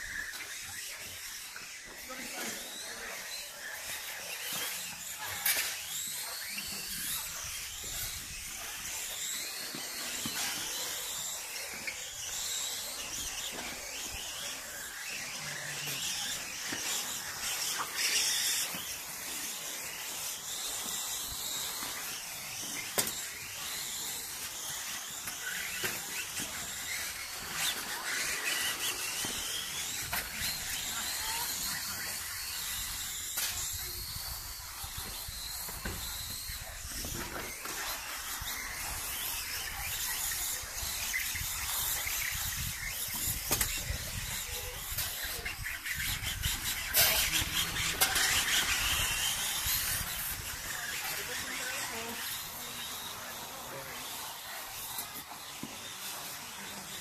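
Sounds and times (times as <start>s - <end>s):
rc car motors whining: 0.0s - 57.0s.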